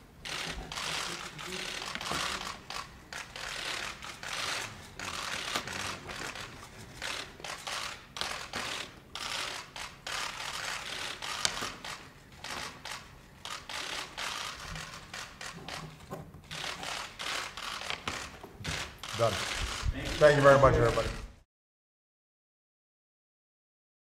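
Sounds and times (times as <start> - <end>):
camera shutters clicking: 0.2 - 21.3.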